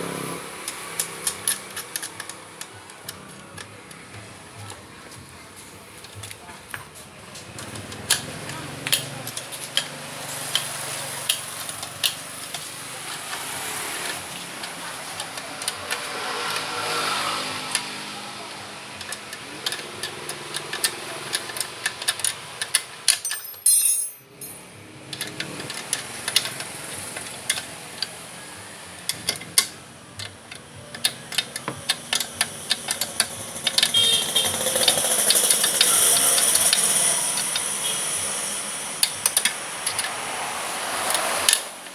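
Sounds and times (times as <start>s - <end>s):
tools and metal parts rattling: 0.5s - 4.8s, 5.4s - 17.9s, 18.9s - 28.2s, 29.0s - 41.9s.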